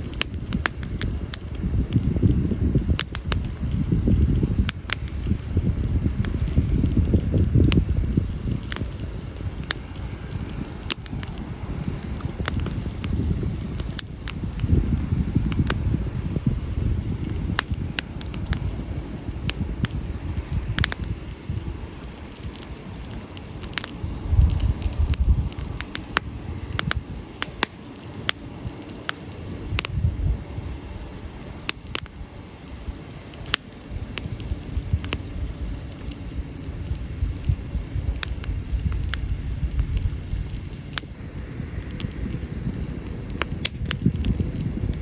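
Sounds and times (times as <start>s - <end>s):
campfire crackling and popping: 0.0s - 45.0s
low fire rumble: 0.0s - 45.0s.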